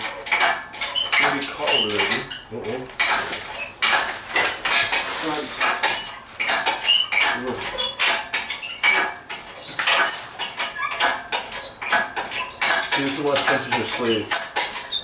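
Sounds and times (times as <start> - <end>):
metal parts clinking and rattling: 0.0 - 15.0.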